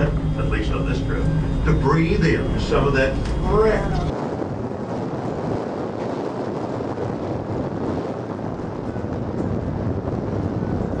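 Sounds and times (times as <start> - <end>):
cable car running noise: 0.0 - 11.0
wind on microphone: 0.0 - 11.0.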